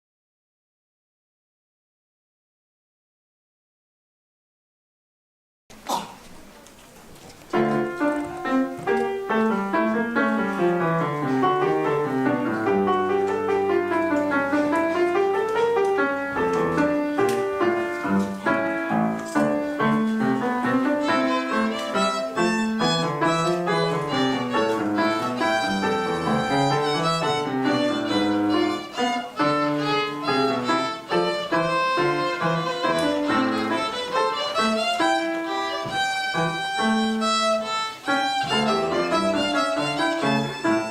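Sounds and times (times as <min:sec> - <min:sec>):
piano accompaniment: 0:06.2 - 0:40.9
violin: 0:07.2 - 0:40.9.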